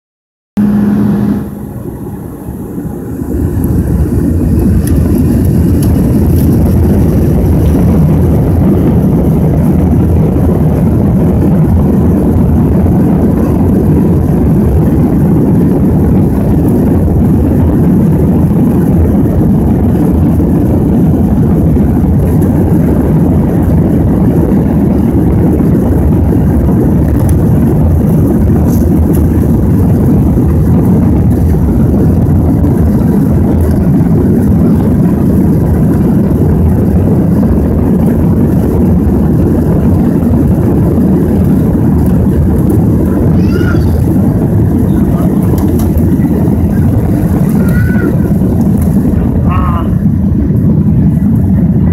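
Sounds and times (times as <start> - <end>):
jet engines at takeoff power: 0.6 - 51.9.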